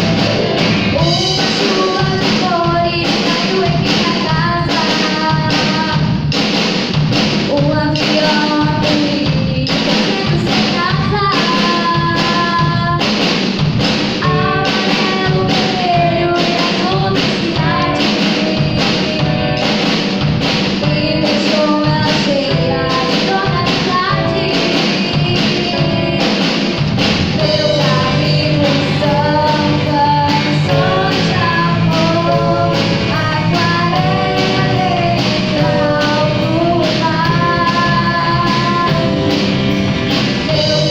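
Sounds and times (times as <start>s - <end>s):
person singing: 0.0s - 6.2s, 7.5s - 13.2s, 14.2s - 20.2s, 20.8s - 26.8s, 27.4s - 39.5s, 40.5s - 40.9s
rock band playing: 0.0s - 40.9s.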